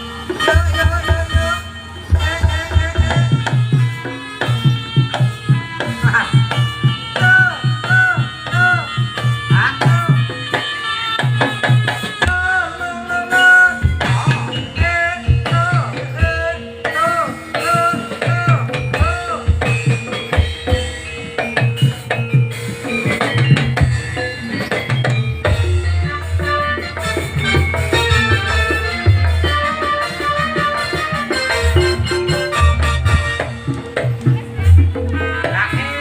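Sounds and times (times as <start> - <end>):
drums beating a dense rhythm: 0.0 - 36.0
repeating melody with bending notes: 0.0 - 36.0.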